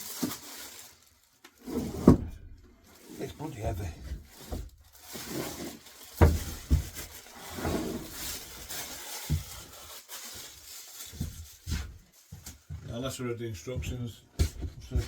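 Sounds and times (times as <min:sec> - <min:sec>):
packaging rustling: 0:00.0 - 0:12.6.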